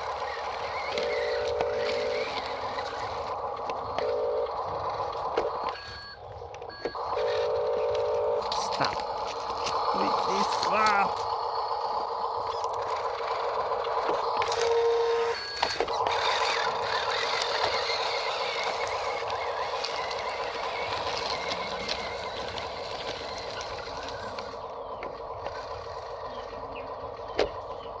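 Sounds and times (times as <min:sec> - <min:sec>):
toy truck motor whining: 0:00.0 - 0:28.0.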